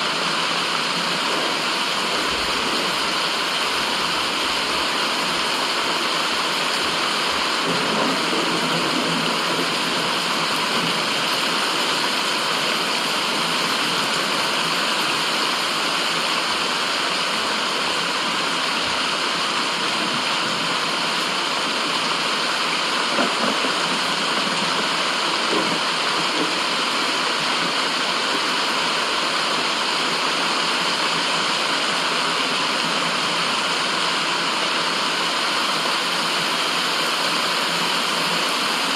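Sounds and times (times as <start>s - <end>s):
steady rushing white noise: 0.0s - 38.9s.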